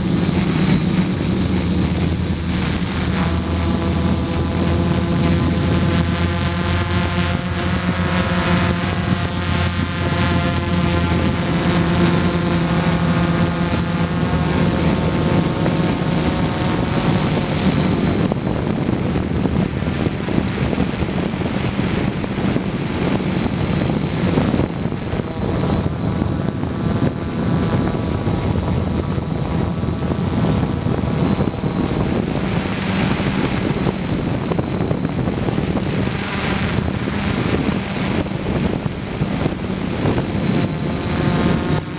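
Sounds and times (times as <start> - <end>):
propeller wash and wind rush: 0.0 - 41.9
quadcopter motors whining: 0.0 - 41.9.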